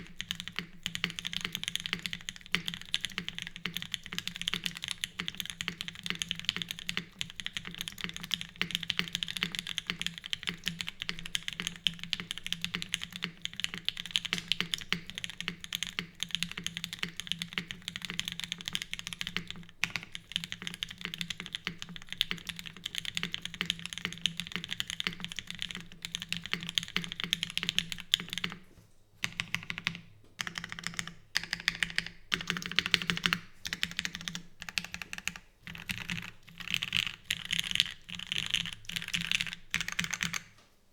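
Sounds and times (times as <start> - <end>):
mechanical keyboard typing: 0.0 - 28.6, 29.2 - 40.6.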